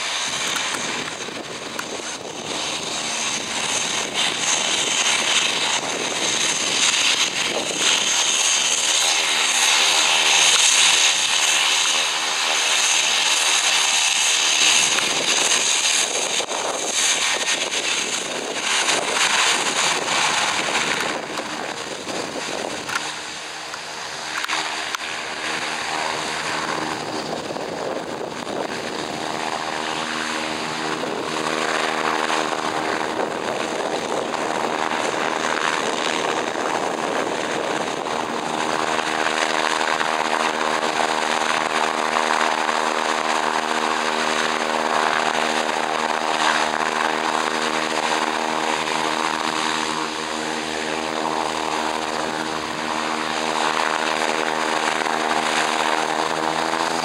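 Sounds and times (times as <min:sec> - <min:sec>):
turboprop engines running: 0:00.0 - 0:57.0.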